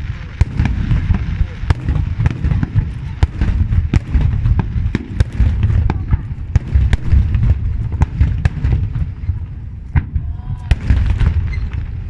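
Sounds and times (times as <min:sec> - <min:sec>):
fireworks bangs and crackles: 0:00.0 - 0:12.0
low rumble of booms: 0:00.0 - 0:12.0.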